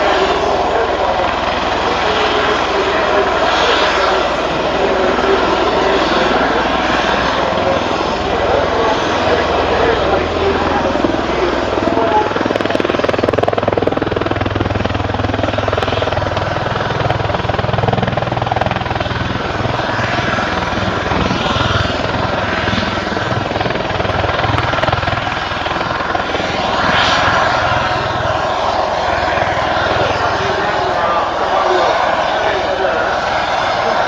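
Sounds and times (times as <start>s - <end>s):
helicopter rotor and engine: 0.0s - 34.0s.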